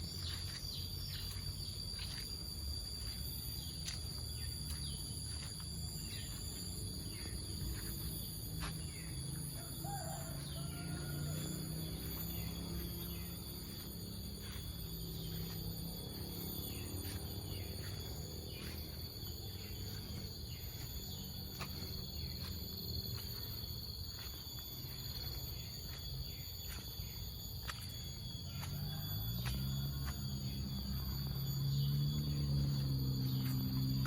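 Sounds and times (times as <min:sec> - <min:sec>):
insects chirring: 0:00.0 - 0:34.0
low hum: 0:00.0 - 0:34.0.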